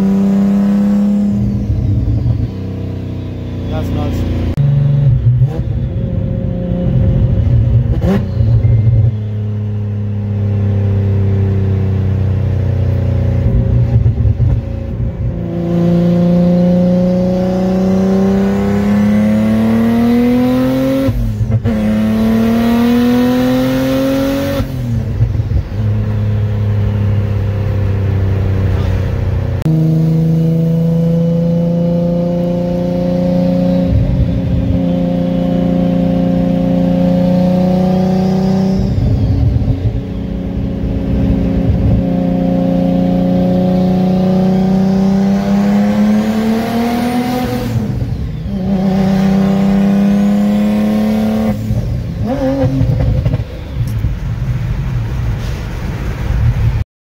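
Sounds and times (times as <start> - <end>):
car engine accelerating: 0.0 - 56.8.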